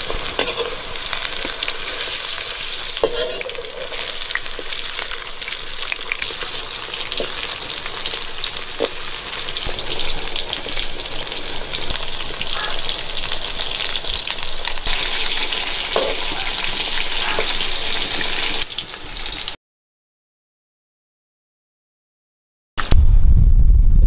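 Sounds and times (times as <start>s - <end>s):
food frying in hot oil: 0.0s - 19.6s.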